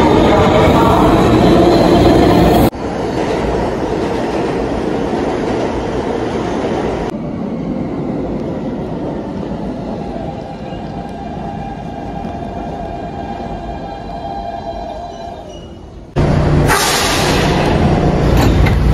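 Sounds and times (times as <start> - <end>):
train rolling: 0.0 - 18.9.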